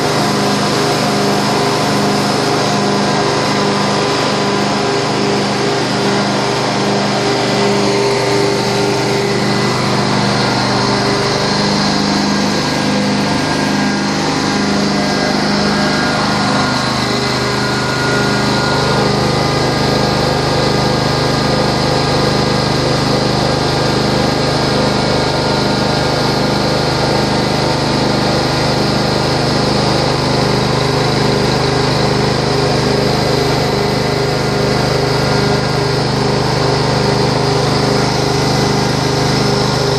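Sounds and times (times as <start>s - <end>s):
rotary carpet extraction tool: 0.0s - 39.9s
truckmount engine and vacuum blower: 0.0s - 39.9s.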